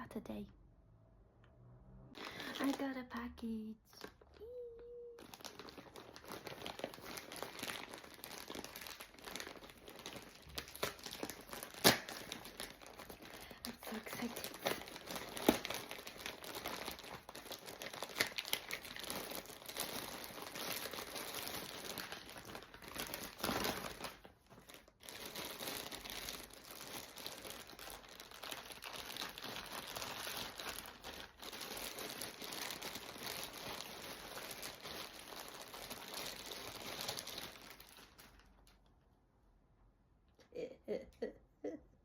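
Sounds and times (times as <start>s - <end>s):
packaging crinkling and rustling: 2.2s - 3.0s, 3.9s - 39.0s.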